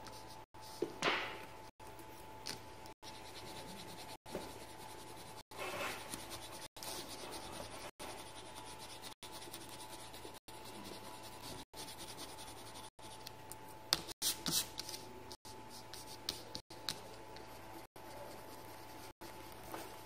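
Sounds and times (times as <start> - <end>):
coloured pencil scratching on paper: 3.0 - 13.3, 14.2 - 20.0.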